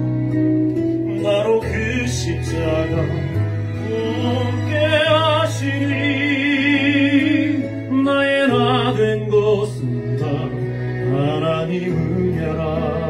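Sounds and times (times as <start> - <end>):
musical accompaniment: 0.0 - 13.0
man singing into a microphone: 1.1 - 13.0.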